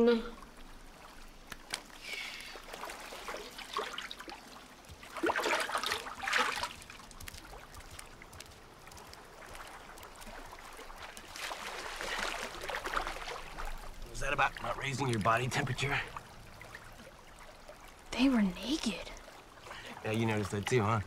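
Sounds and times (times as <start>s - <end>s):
water trickling and dripping: 0.0s - 21.0s
water sloshing and splashing: 0.3s - 21.0s.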